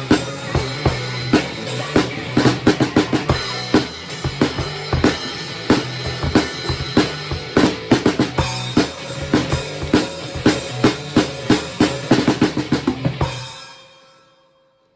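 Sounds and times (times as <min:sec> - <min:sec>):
fast drum kit playing: 0:00.0 - 0:13.9
heavy metal song: 0:00.0 - 0:13.9.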